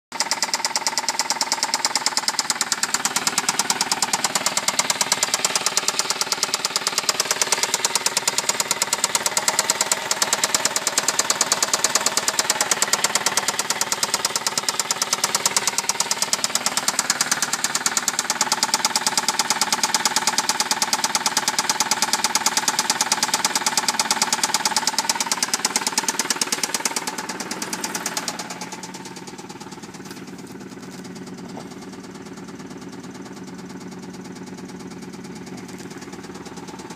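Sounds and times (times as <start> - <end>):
car engine knocking: 0.1 - 36.9.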